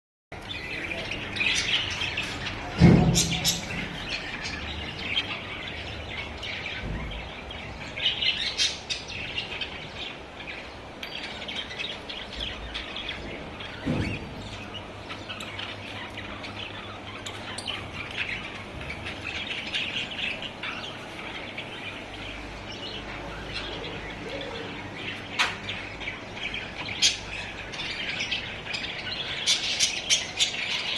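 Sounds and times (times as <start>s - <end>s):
budgerigars chattering and chirping: 0.4s - 30.9s.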